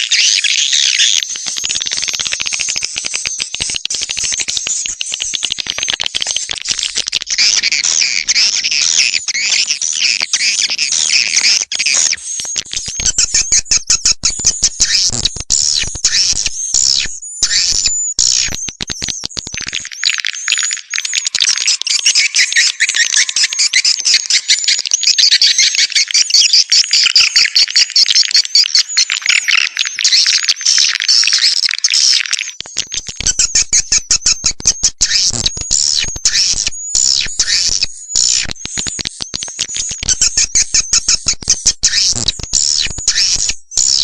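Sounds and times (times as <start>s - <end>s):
swiftlets chirping and twittering: 0.0s - 44.0s.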